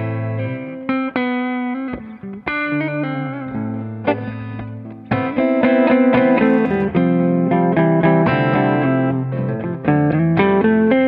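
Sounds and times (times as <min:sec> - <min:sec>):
electric guitar lightly driven: 0:00.0 - 0:11.0.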